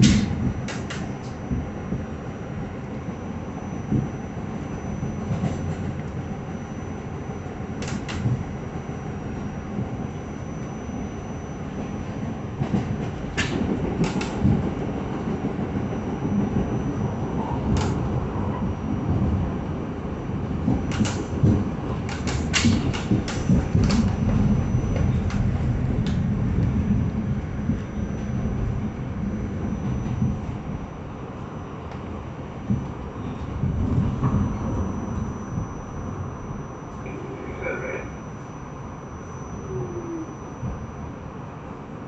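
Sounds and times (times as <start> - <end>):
train wheels rumbling on track: 0.0 - 10.4, 11.6 - 38.9
faint high whine: 0.0 - 21.1, 23.0 - 42.0.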